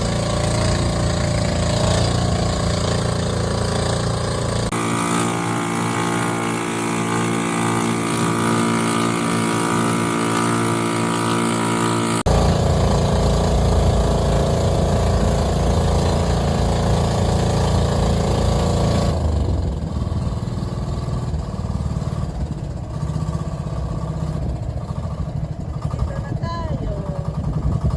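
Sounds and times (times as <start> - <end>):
boat engine rumbling: 0.0 - 27.9.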